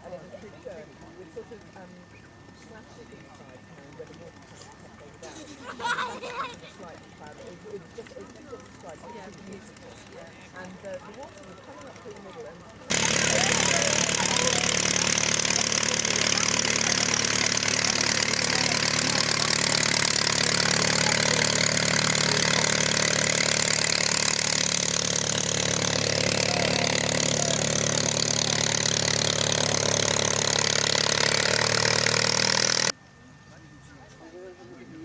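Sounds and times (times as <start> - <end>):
piston engine running: 0.0 - 35.0.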